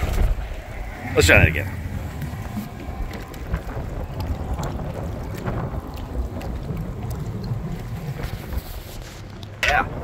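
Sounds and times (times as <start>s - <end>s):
water rushing along hull: 0.0s - 10.0s
wind buffeting microphone: 0.0s - 10.0s.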